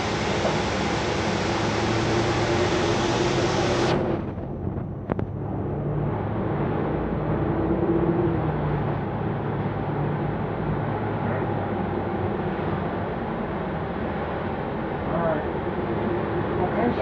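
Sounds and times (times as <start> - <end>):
bus drive hum and road noise: 0.0 - 17.0.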